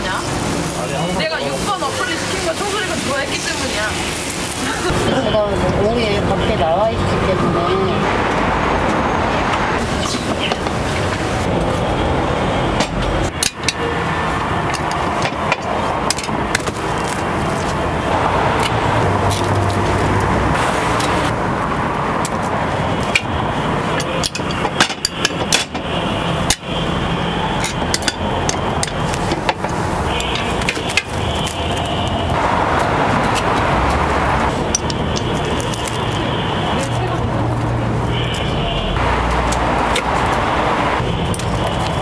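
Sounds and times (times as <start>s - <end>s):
street noise: 0.0s - 42.0s.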